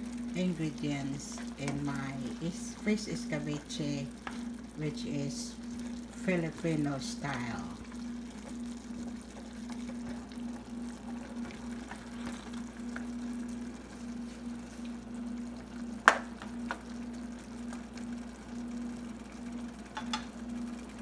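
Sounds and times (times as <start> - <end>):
sauce simmering in a frying pan: 0.0 - 21.0
steady low hum: 0.0 - 21.0.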